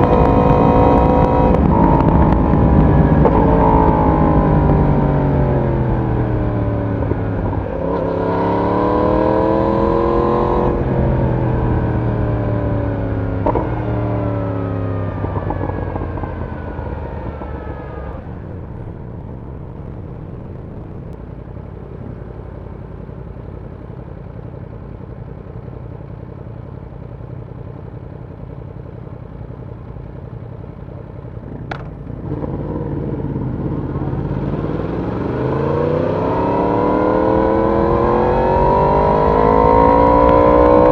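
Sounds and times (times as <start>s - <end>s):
motorcycle engine exhaust: 0.0s - 40.9s.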